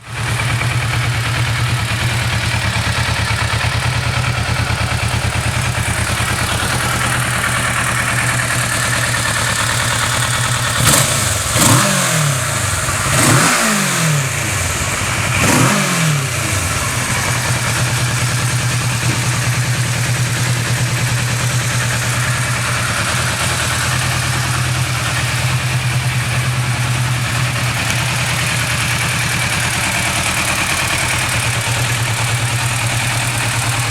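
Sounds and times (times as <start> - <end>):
motorcycle engine idling: 0.0 - 33.9
engine revving: 0.1 - 33.9.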